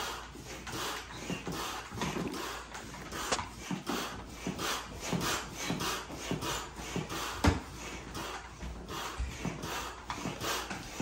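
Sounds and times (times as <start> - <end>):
hand pump rushing air: 0.0 - 11.0.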